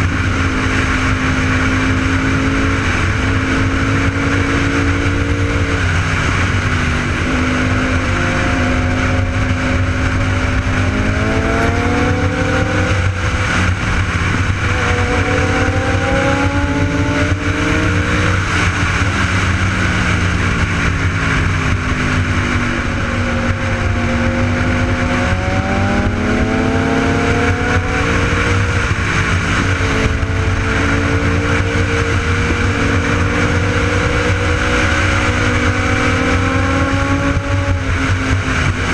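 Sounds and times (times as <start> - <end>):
motorcycle engine revving: 0.0 - 38.9
steady rushing noise: 0.0 - 38.9.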